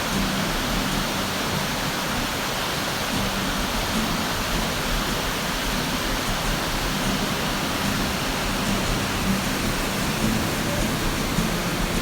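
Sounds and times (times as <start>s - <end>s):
waterfall pouring into a pool: 0.0s - 12.0s.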